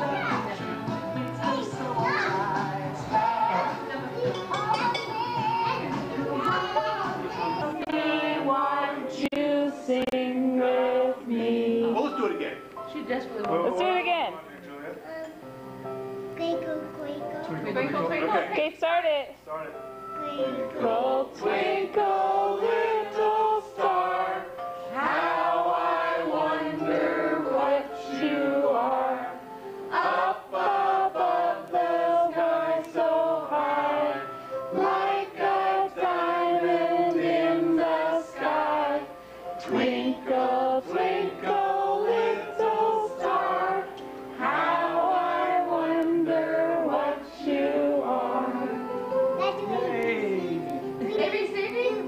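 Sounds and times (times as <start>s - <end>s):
group of people singing: 0.0s - 12.4s, 20.3s - 51.4s.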